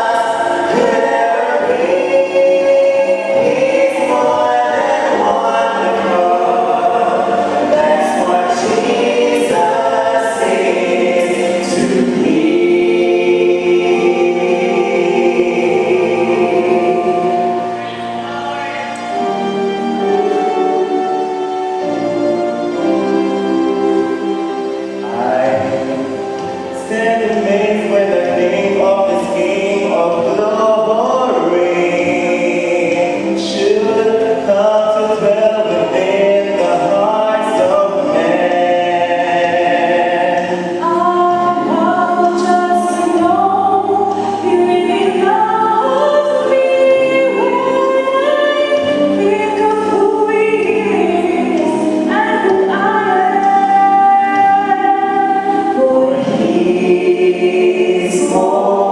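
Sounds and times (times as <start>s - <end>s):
choir singing a hymn: 0.0s - 58.9s
low musical accompaniment: 0.0s - 58.9s.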